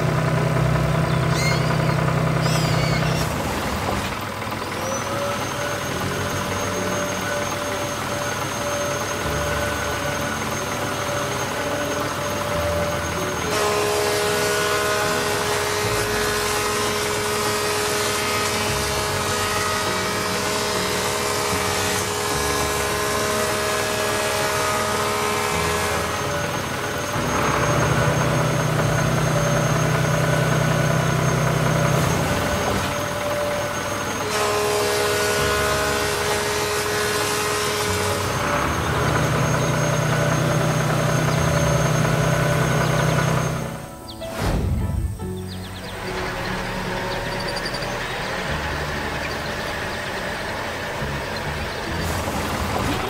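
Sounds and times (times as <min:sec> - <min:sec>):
cartoon machine engine hum: 0:00.0 - 0:53.0.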